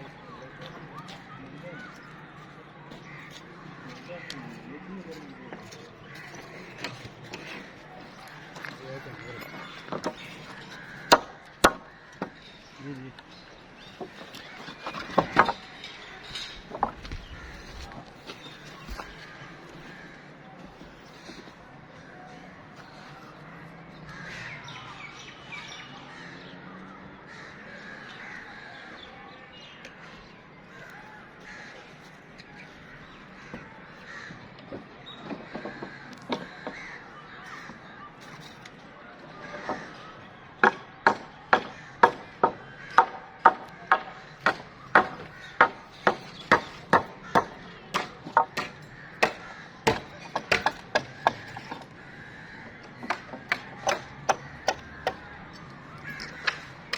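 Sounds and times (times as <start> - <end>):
birds calling: 0.0 - 56.9.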